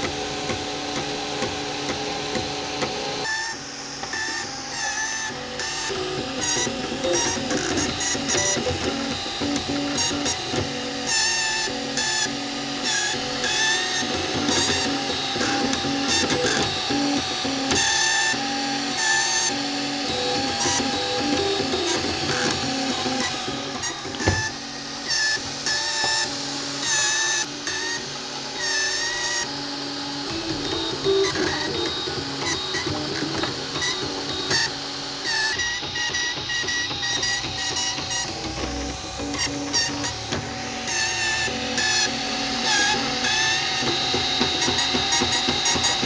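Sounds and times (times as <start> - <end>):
stepper motors whining: 0.0 - 46.0.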